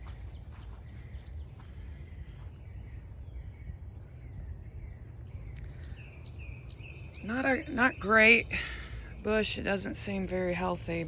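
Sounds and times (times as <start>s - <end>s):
songbirds chirping: 0.0s - 11.0s
steady low rumble: 0.0s - 11.0s.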